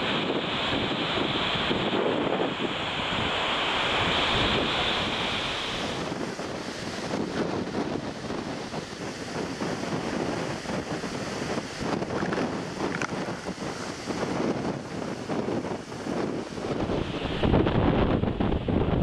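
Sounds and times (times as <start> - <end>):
surf and choppy water: 0.0 - 19.0
wind buffeting microphone: 0.0 - 19.0.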